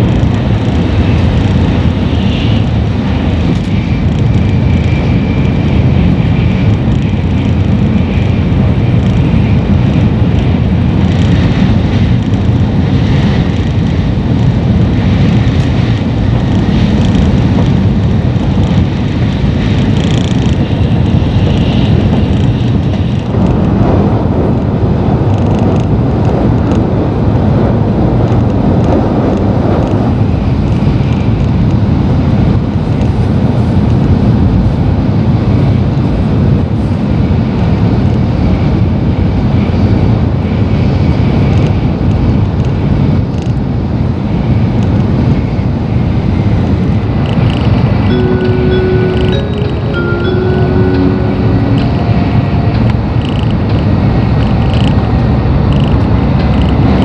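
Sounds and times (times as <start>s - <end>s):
high-speed train cabin rumble: 0.0s - 57.0s.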